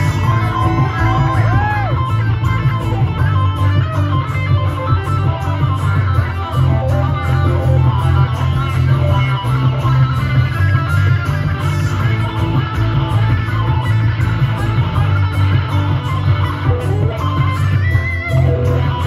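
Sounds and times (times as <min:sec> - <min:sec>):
amplified acoustic guitar playing: 0:00.0 - 0:19.0.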